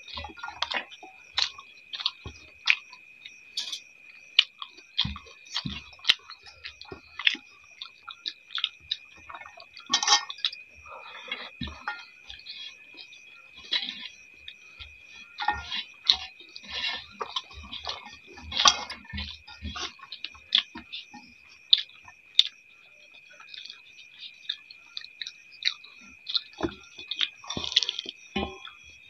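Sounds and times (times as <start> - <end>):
chewing and mouth smacks: 0.2 - 3.0, 4.4 - 22.6, 23.3 - 28.9.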